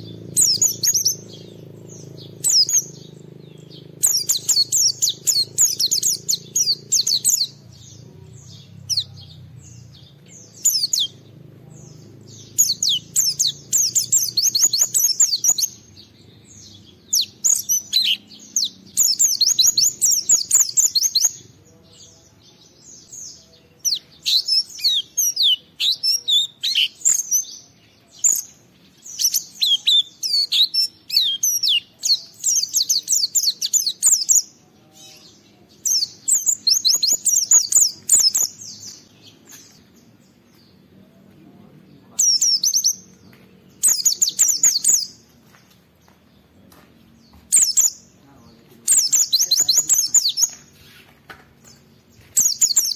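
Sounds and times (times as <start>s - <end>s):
bird twittering song: 0.0s - 52.9s.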